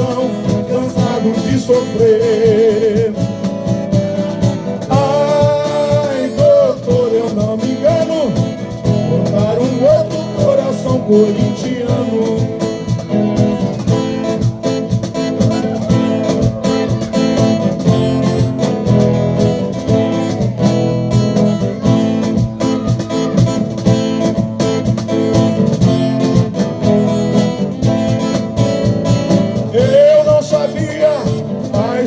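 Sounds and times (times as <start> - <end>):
percussion beat: 0.0 - 32.0
strummed guitar: 0.0 - 32.0.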